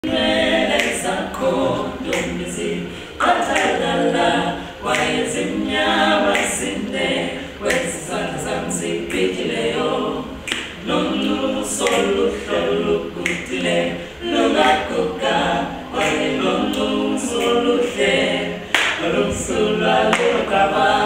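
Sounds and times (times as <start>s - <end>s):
vocal group singing a cappella: 0.0s - 21.0s.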